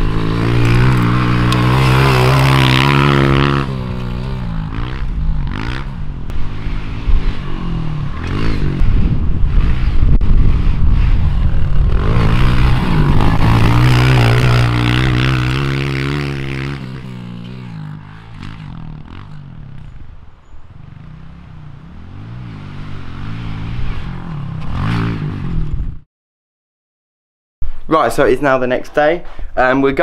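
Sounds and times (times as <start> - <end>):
dirt bike engine revving: 0.0 - 20.0, 20.7 - 26.0.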